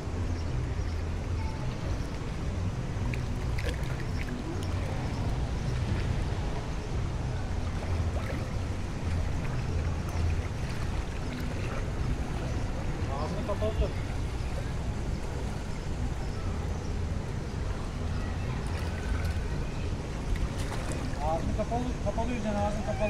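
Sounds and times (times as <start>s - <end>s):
water splashing and lapping: 1.1s - 22.0s.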